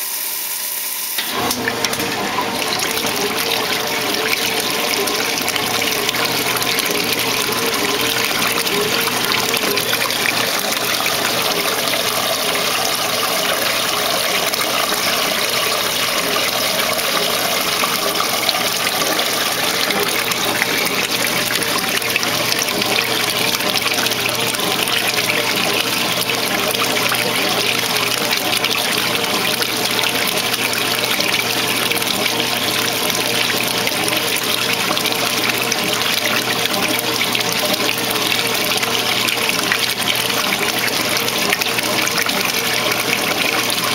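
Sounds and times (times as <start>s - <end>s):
water gushing into washer tub: 0.0s - 43.9s.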